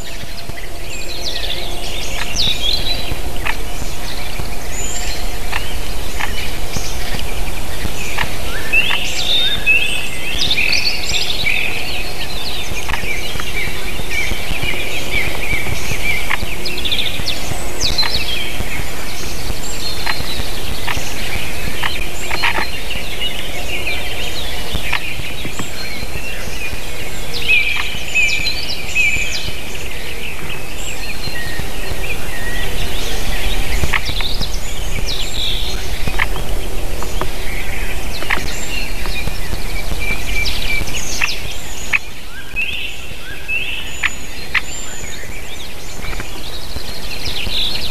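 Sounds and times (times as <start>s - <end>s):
low background rumble: 0.0s - 43.0s
birds chirping and calling: 0.0s - 47.9s.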